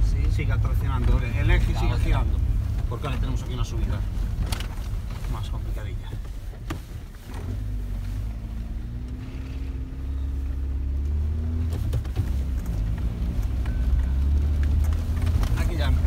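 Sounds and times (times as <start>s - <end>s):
engine drone inside cab: 0.0s - 16.0s.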